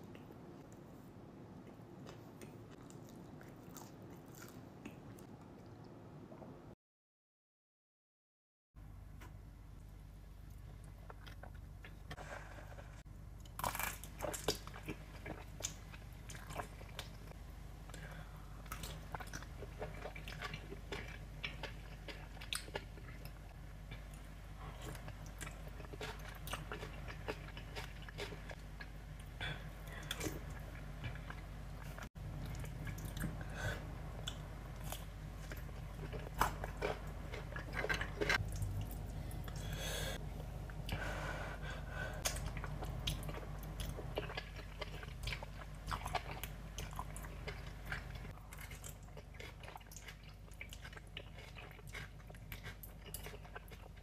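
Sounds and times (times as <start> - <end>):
low steady hum: 0.0 - 6.8, 8.8 - 54.0
wet chewing of noodles: 1.6 - 5.8, 10.4 - 54.0.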